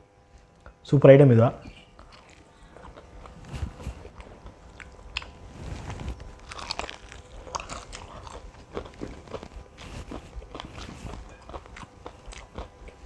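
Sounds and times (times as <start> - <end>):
crispy fried chicken crunching: 2.0 - 13.0.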